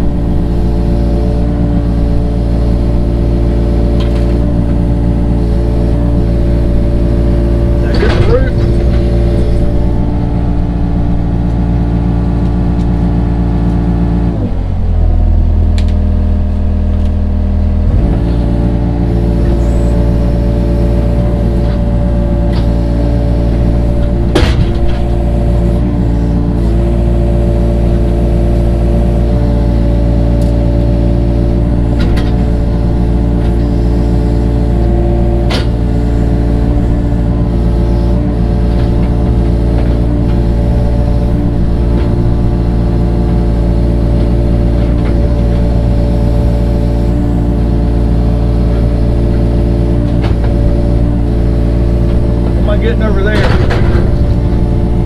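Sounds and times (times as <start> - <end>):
digging machine engine running: 0.0 - 55.0.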